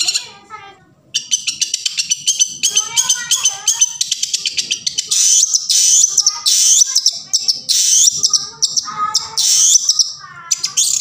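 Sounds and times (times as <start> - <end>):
soft bird chirps: 1.2 - 11.0.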